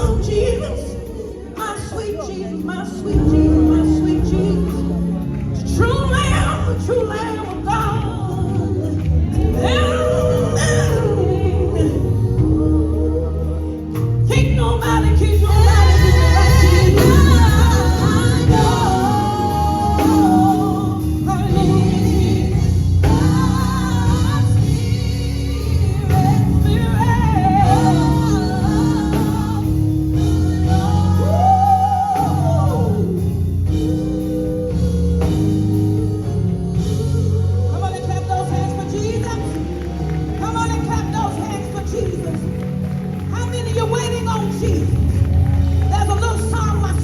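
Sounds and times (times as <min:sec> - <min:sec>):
gospel singing with instruments: 0:00.0 - 0:47.0
steady low bass: 0:00.0 - 0:47.0.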